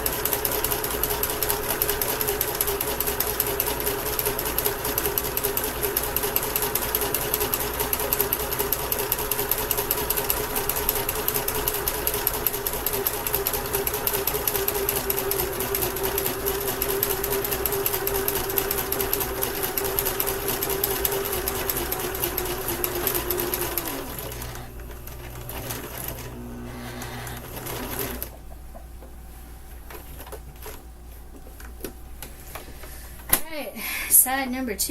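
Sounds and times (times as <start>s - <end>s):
sewing machine stitching: 0.0s - 28.4s.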